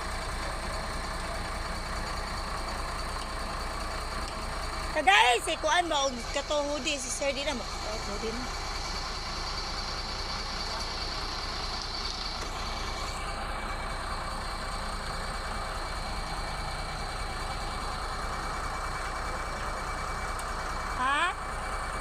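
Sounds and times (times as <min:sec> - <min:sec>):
engine running with faint whine: 0:00.0 - 0:22.0.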